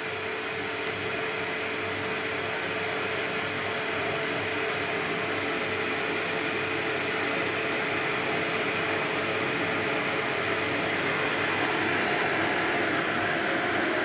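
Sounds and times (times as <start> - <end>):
faint steady hum: 0.0 - 14.0
kettle water rushing: 0.0 - 14.0.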